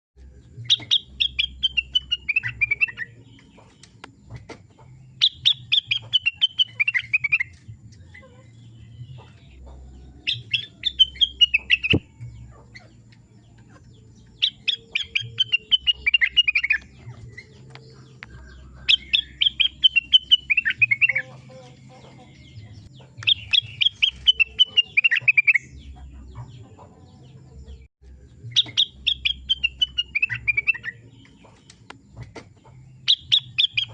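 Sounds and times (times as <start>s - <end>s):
bird song with falling high notes: 0.2s - 26.7s, 27.8s - 33.9s.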